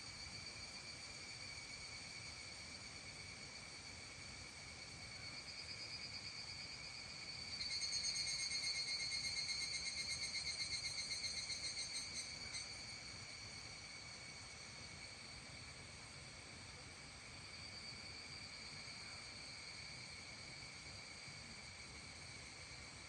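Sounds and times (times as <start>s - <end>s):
insects trilling: 0.0s - 23.0s
rapidly pulsing insect trill: 0.0s - 23.0s.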